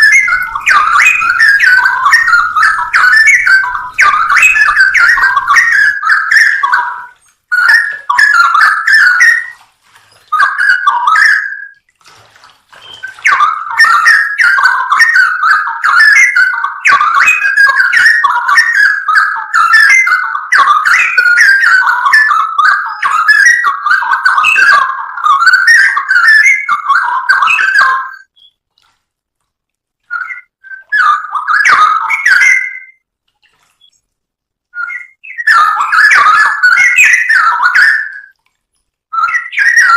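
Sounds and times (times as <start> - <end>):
bird singing whistled phrases: 0.0 - 11.8, 12.8 - 28.6, 30.1 - 33.0, 34.8 - 38.4, 39.1 - 39.9.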